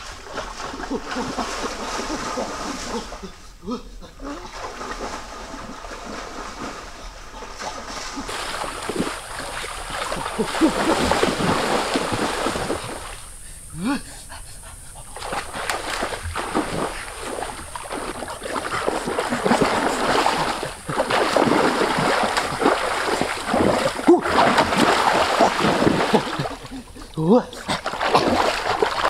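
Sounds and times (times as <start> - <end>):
water splashing and sloshing: 0.0 - 13.4, 14.9 - 29.0.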